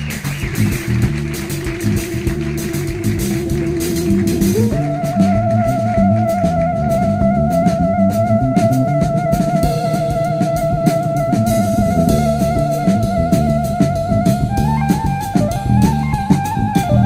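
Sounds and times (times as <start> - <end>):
background music with drums: 0.0 - 17.0.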